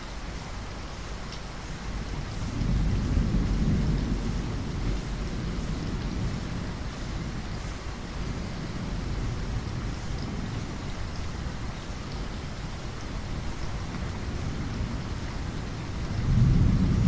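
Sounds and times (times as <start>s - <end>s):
steady rain falling: 0.0s - 17.0s
low rumble of thunder: 1.6s - 17.0s.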